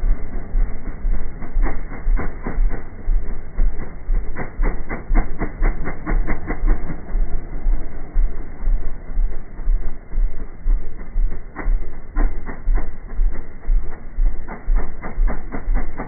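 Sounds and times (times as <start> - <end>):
atv engine running under load: 0.0 - 16.0
rhythmic engine chugging: 0.0 - 16.0.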